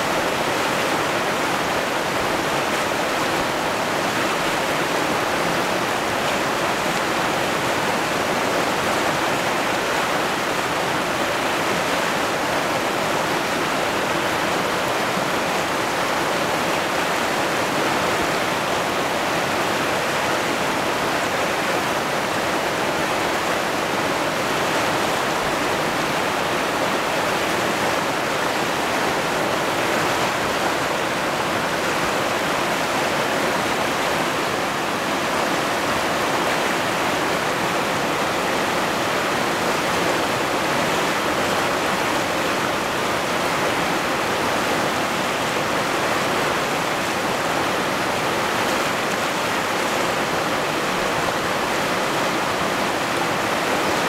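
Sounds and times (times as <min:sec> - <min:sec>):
river rapids rushing over boulders: 0:00.0 - 0:54.0.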